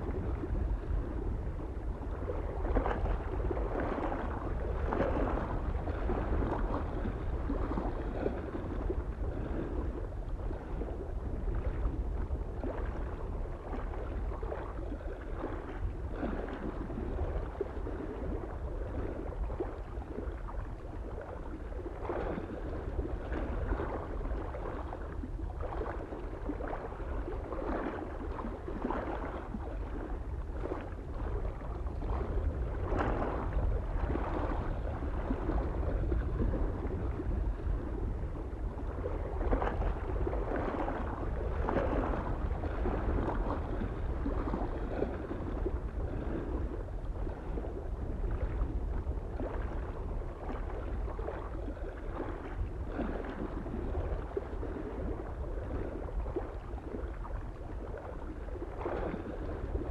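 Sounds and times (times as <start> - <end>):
lake waves lapping on shore: 0.0 - 59.9
soft wind rumble: 0.0 - 59.9.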